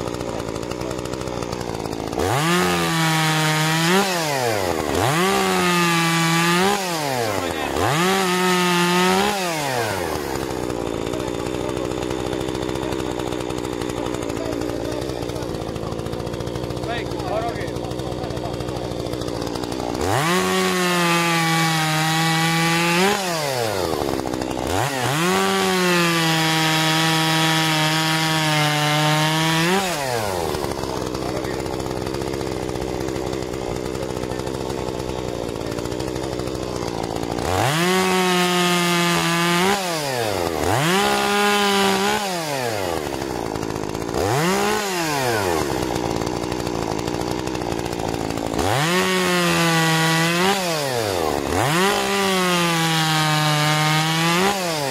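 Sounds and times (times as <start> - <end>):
chainsaw revving and cutting logs: 0.0 - 54.9.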